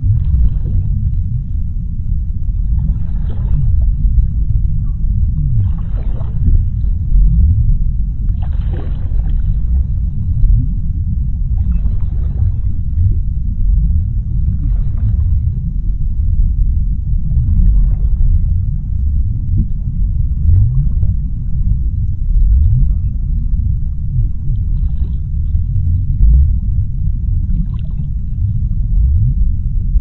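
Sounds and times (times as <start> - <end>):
soft hissing water wash: 0.0 - 30.0
underwater deep rumble: 0.0 - 30.0.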